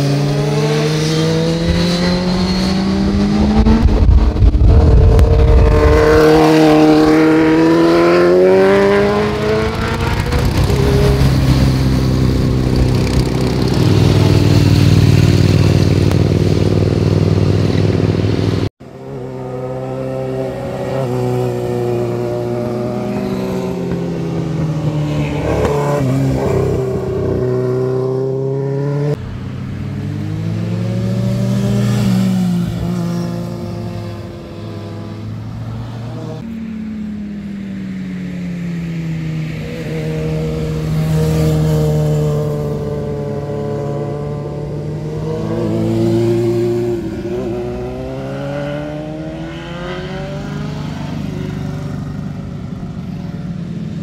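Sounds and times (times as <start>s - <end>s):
motorcycle engines passing: 0.0s - 54.0s.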